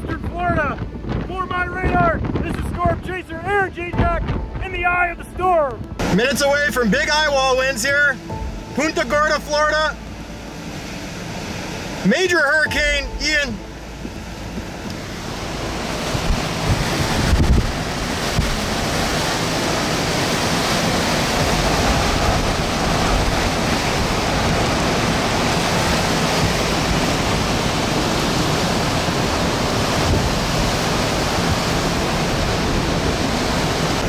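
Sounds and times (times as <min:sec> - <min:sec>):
wind buffeting microphone: 0:00.0 - 0:12.0, 0:12.6 - 0:34.0.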